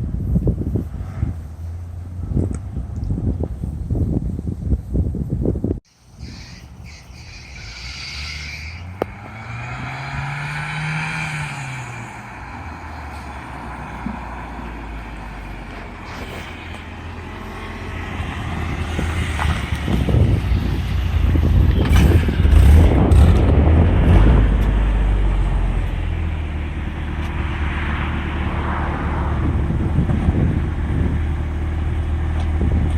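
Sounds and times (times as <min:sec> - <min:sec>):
car engine rumbling: 0:00.0 - 0:32.9.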